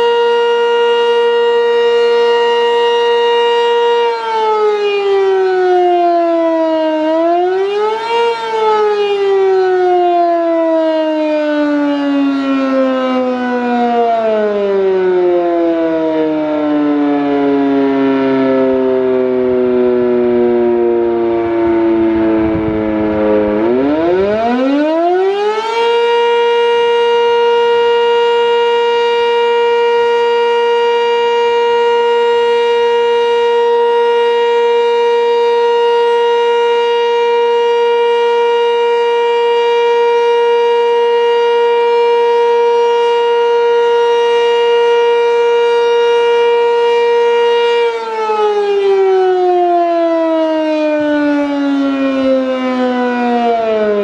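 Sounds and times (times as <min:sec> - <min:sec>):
warning siren wailing: 0:00.0 - 0:54.0.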